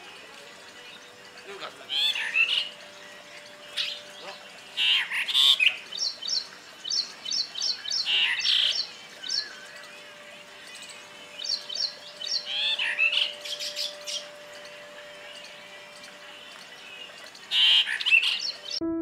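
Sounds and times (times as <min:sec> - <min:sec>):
starling chirping and warbling: 0:00.1 - 0:18.8.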